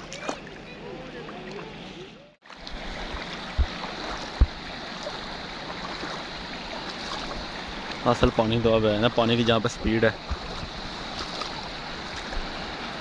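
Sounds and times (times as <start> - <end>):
stream rushing over stones: 2.4 - 13.0.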